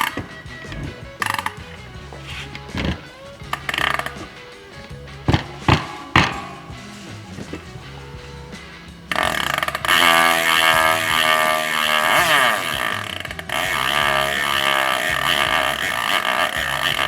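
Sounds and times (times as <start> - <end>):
distorted buzzing synth lead: 0.0 - 17.0
stepping bass line: 0.0 - 17.0.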